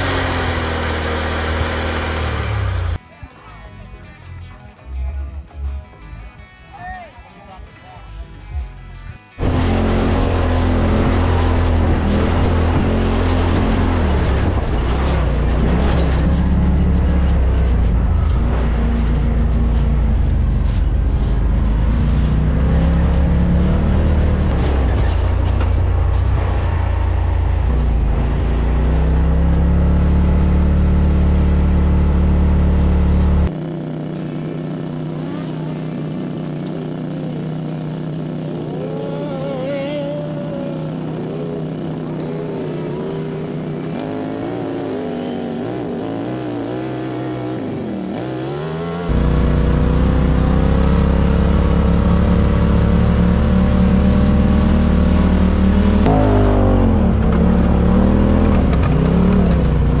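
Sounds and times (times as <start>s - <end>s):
loud engine running: 0.0s - 3.0s, 9.4s - 60.0s
passing engines revving: 0.0s - 3.0s, 9.4s - 60.0s.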